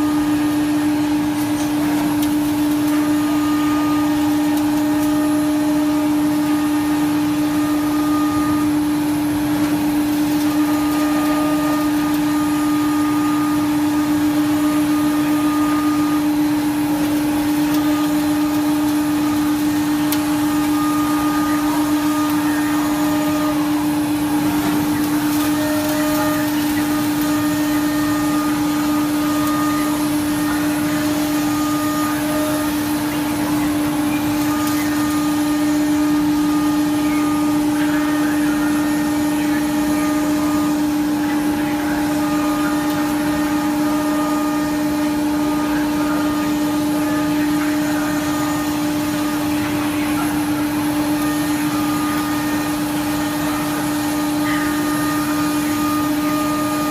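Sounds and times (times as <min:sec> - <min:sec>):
dust extraction rushing noise: 0:00.0 - 0:56.9
router spindle whine: 0:00.0 - 0:56.9.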